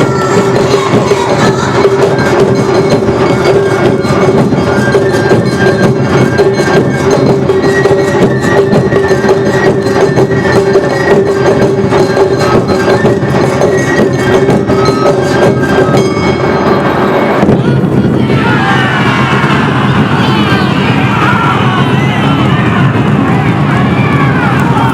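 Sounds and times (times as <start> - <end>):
drums fast beat: 0.0 - 24.9
flute melody: 0.0 - 24.9.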